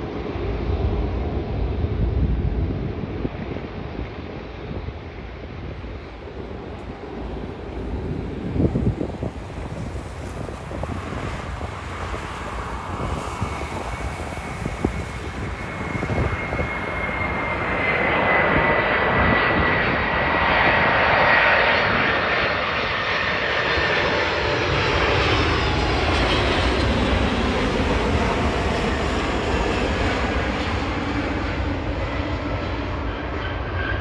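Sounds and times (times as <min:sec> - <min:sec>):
high engine whine: 0:00.0 - 0:34.0
jet engines roaring: 0:00.0 - 0:34.0.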